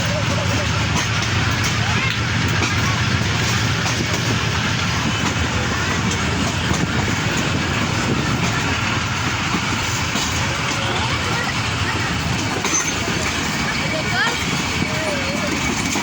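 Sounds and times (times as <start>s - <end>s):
faint clickety-clack: 0.0s - 16.0s
train wheels on rails: 0.0s - 16.0s.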